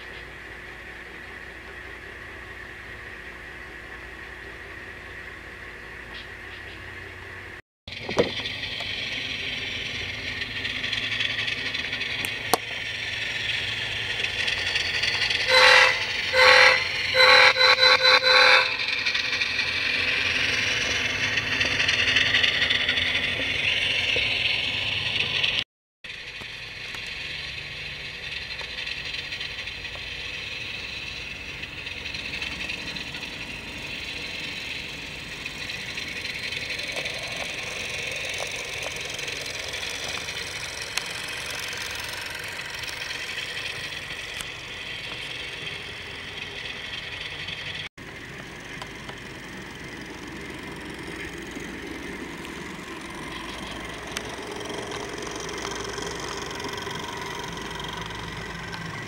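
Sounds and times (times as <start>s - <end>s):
motor hum: 0.0s - 59.0s
model train wheels clattering: 7.9s - 59.0s.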